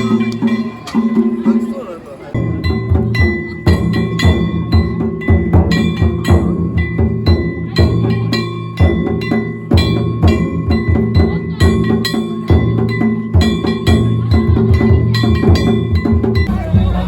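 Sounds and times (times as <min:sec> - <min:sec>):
small metal gongs ringing: 0:00.0 - 0:16.8
big drum beats: 0:00.0 - 0:17.0.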